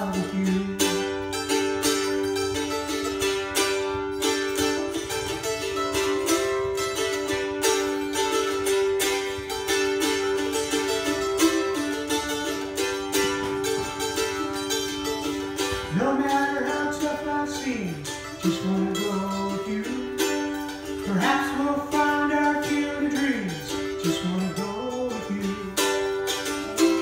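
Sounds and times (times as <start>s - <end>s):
plucked string instrument strumming: 0.0s - 27.0s.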